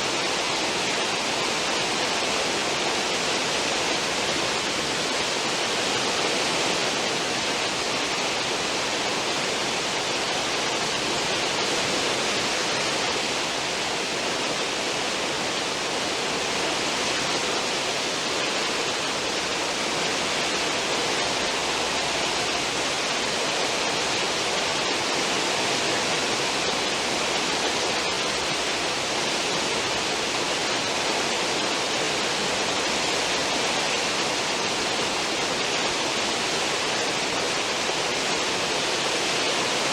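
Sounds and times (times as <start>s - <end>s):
churning foaming water: 0.0s - 39.9s.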